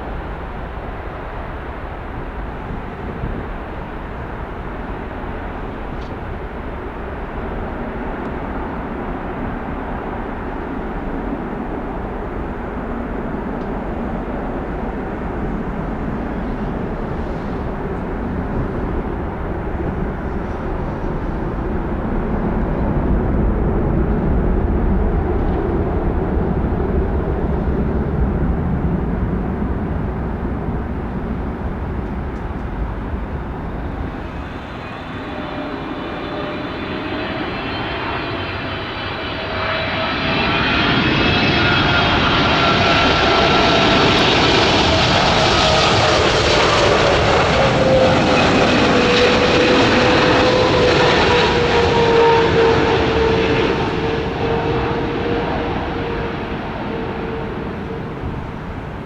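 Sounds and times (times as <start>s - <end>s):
jet engine rumble: 0.0s - 59.0s
jet engines whining: 0.0s - 59.0s.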